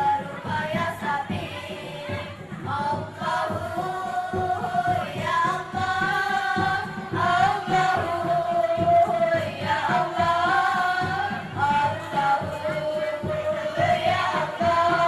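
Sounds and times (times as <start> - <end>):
high voices singing in unison: 0.0 - 15.0
music with steady drum beat: 0.0 - 15.0.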